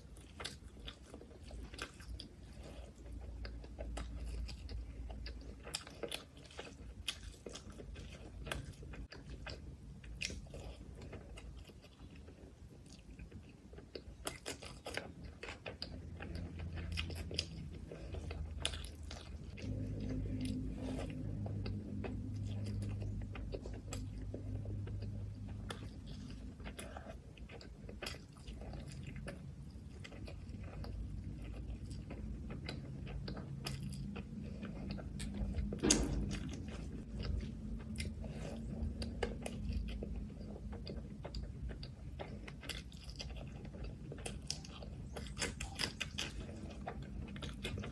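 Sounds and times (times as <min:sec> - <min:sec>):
chewing and wet mouth sounds: 0:00.0 - 0:47.9
low steady hum: 0:00.0 - 0:47.9.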